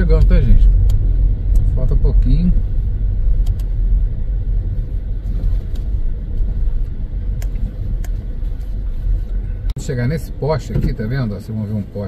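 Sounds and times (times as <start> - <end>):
car tyres rumbling on dirt road: 0.0 - 12.0.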